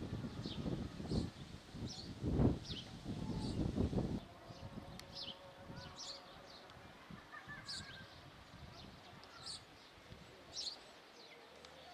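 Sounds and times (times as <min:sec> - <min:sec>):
small birds chirping: 0:00.2 - 0:03.8, 0:04.4 - 0:11.9.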